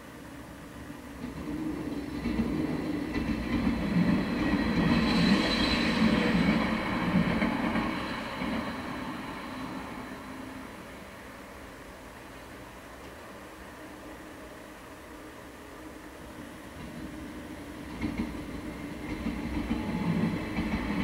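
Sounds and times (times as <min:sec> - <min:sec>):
train passing on rails: 0:00.0 - 0:21.0.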